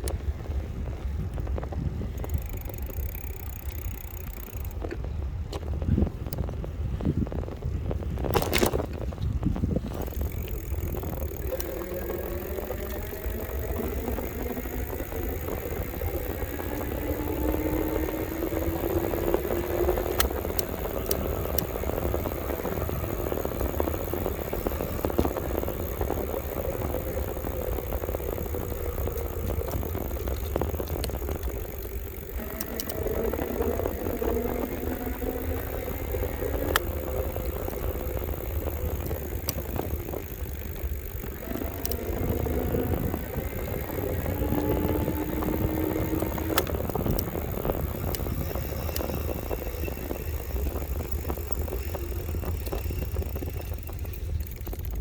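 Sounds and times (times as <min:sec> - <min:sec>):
electric bike motor whine: 0:00.0 - 0:55.0
rumble of wind and tyres: 0:00.0 - 0:55.0.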